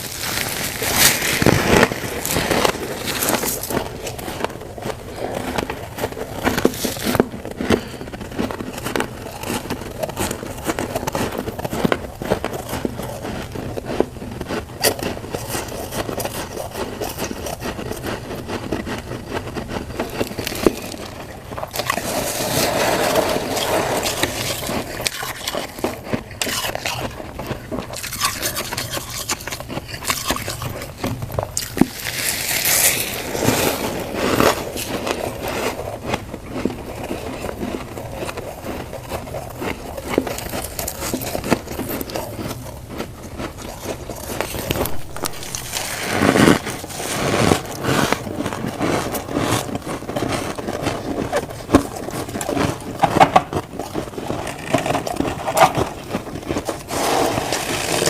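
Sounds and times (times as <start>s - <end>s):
frost being chewed: 0.0s - 58.0s.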